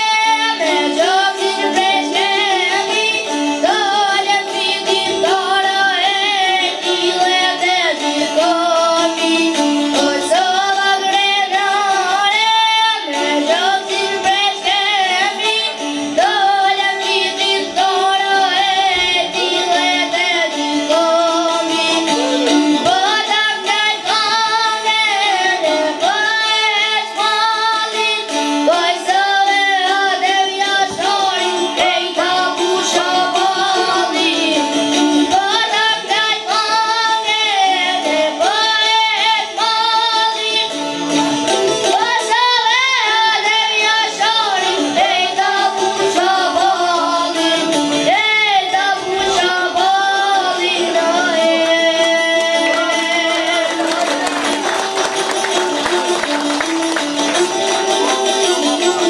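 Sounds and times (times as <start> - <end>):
boy singing folk song: 0.0 - 59.0
plucked lutes: 0.0 - 59.0.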